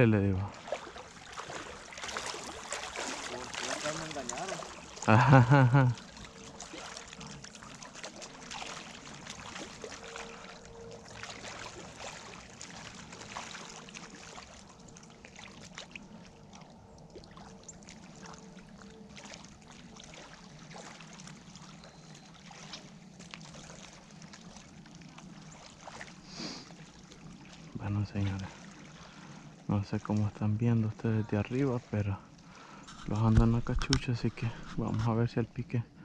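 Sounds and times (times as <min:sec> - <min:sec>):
water lapping and trickling: 0:00.0 - 0:36.0.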